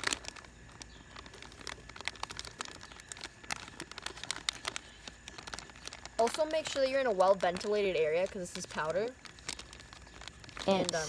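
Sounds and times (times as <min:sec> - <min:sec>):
plaster powder bag crinkling: 0:00.0 - 0:11.0.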